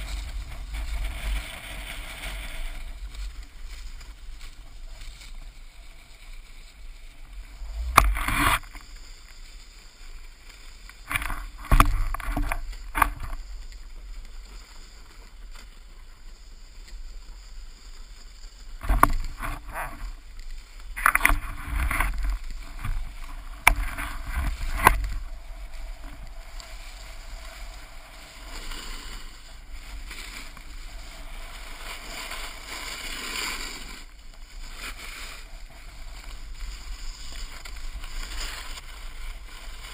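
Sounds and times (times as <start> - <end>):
snowboard scraping over snow: 0.0 - 39.9.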